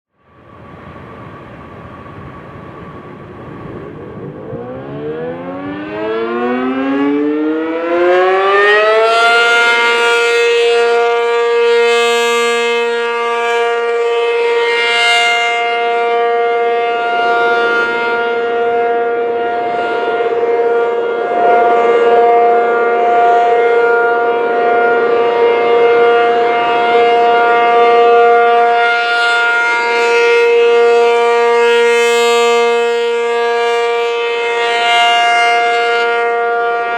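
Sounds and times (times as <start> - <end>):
warning siren winding up: 3.9 - 36.9.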